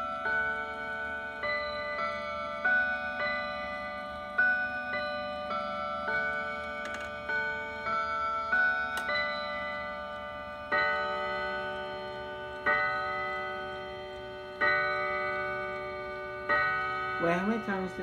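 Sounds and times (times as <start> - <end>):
clock striking the hour: 0.0 - 18.0
mantel clock chime melody: 0.0 - 18.0.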